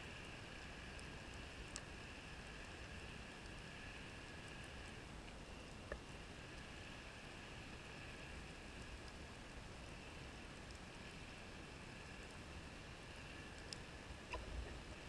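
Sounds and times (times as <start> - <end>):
faint constant whine: 0.0 - 15.0.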